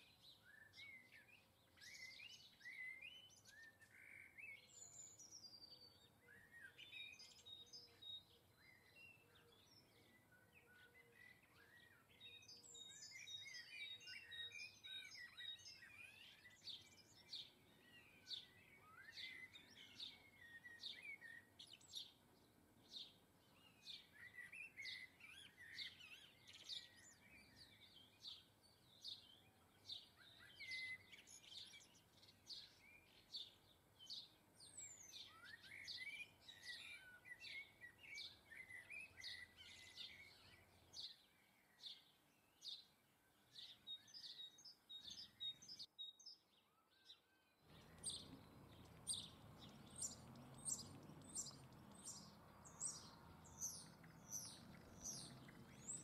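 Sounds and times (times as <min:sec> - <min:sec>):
bird warbling song: 0:00.0 - 0:56.0
low background noise: 0:00.0 - 0:56.0
small birds chirping: 0:00.0 - 0:56.0.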